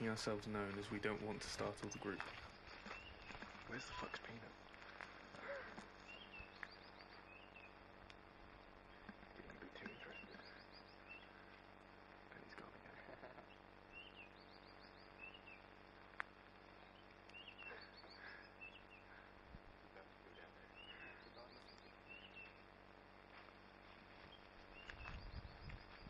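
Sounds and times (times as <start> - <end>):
birds chirping: 0.0 - 22.9, 23.5 - 26.0.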